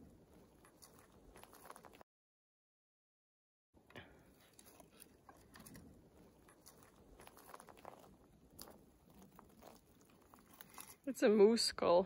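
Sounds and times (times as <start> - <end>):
twigs and pine needles crackling: 0.0 - 2.0, 4.0 - 11.8.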